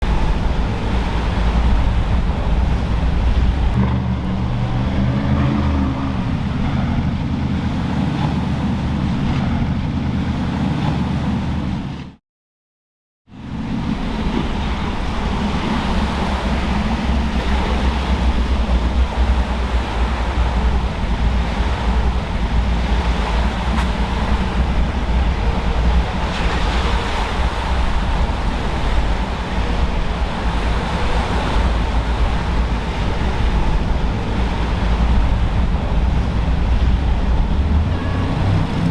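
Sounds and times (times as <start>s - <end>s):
wind buffeting microphone: 0.0s - 12.1s, 13.3s - 38.9s
boat engines running: 0.0s - 12.2s, 13.3s - 38.9s
rough water and waves: 0.0s - 12.2s, 13.3s - 38.9s.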